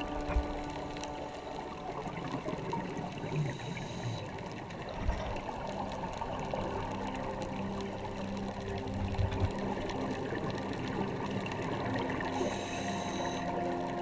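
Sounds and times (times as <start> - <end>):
underwater bubbling and crackling: 0.0 - 14.0.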